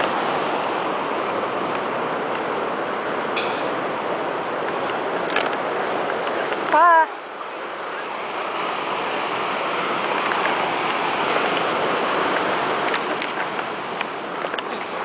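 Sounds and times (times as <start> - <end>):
surf washing on rocky shore: 0.0 - 15.0.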